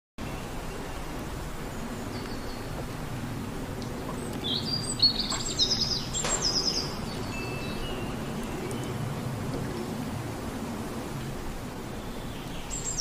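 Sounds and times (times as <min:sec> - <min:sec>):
outdoor background hiss: 0:00.2 - 0:13.0.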